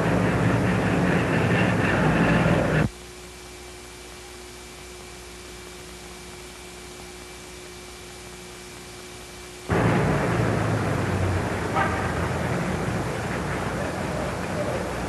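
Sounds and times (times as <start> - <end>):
faint steady hum: 0.0 - 15.0
film soundtrack hiss: 0.0 - 15.0.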